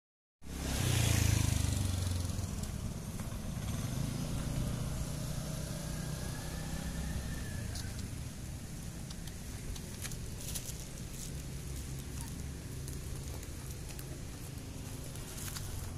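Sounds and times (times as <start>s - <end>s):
traffic engine rumble: 0.5s - 15.9s.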